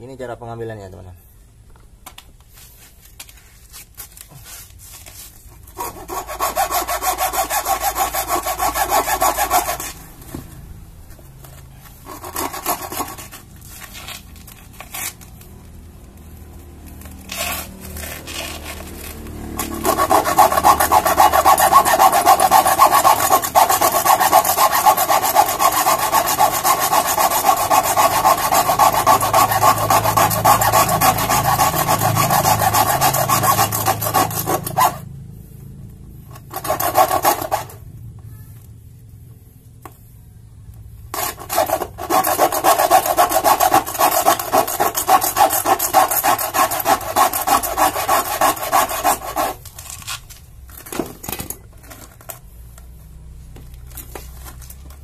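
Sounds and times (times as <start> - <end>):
hacksaw sawing rubber tyre: 3.7 - 10.7, 11.4 - 38.0, 39.8 - 55.0.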